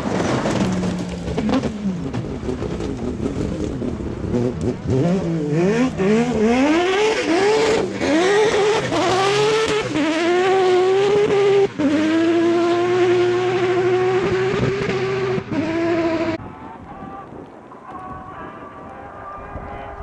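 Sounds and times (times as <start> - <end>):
rally car engine accelerating: 0.0 - 16.4.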